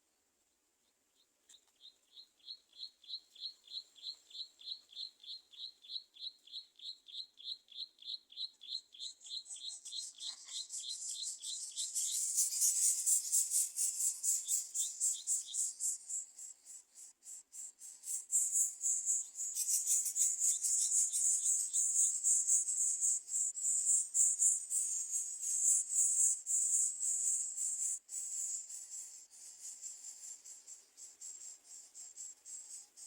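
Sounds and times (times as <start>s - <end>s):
crickets chirping: 1.8s - 33.0s.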